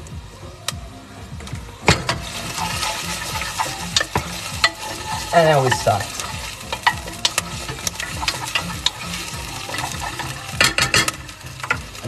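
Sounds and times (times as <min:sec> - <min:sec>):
vegetables sizzling in oil: 0:01.8 - 0:12.0.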